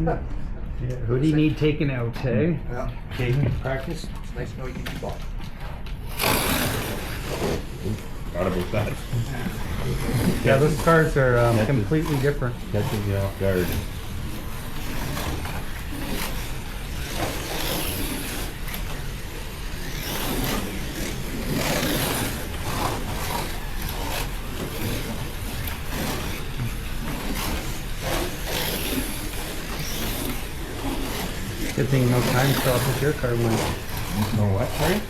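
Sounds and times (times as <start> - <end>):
slot car motors whining: 4.8 - 35.0.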